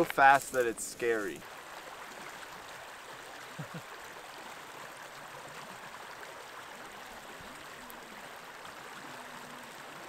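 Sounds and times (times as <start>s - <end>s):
creek water rippling over rocks: 0.0s - 10.0s.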